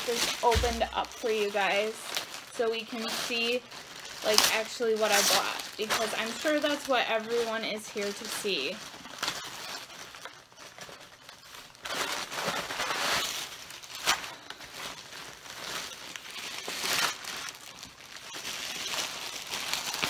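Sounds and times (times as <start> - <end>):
plastic bag crinkling: 0.0 - 20.0
sharp plastic crackle: 0.0 - 20.0.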